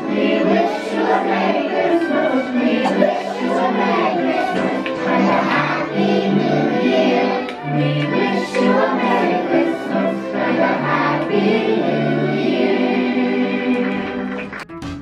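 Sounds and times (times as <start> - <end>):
group of voices singing: 0.0 - 14.4.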